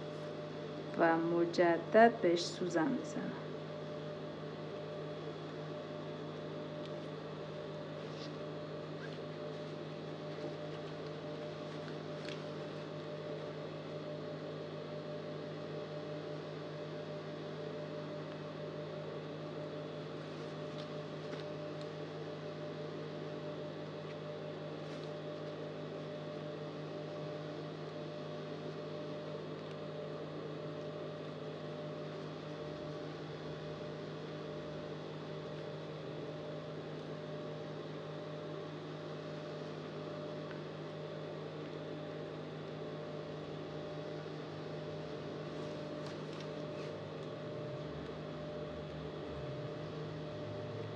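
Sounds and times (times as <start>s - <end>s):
electrical hum: 0.0s - 50.9s.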